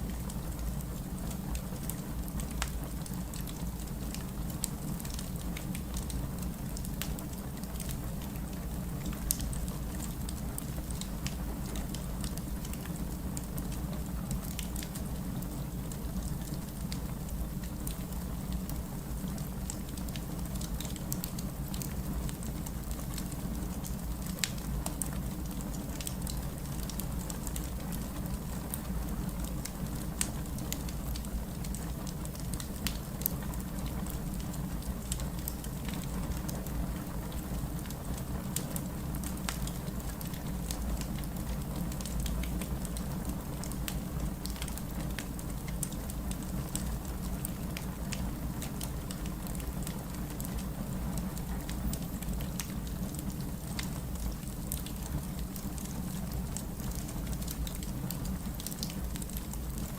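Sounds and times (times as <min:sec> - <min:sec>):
fireplace crackling and popping: 0:00.0 - 0:59.9.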